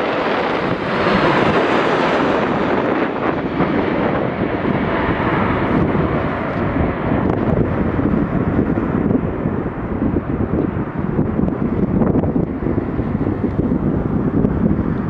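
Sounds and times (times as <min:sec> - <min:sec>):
jet engines rumbling: 0:00.0 - 0:15.0
wind buffeting microphone: 0:00.0 - 0:15.0.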